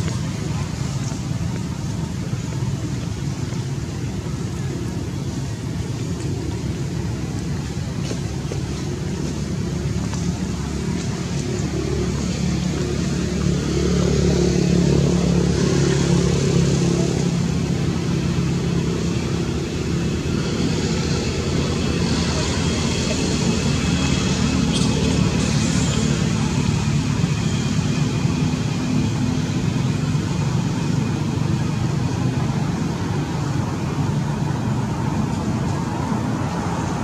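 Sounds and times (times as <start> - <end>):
vehicle rumble: 0.0 - 37.0.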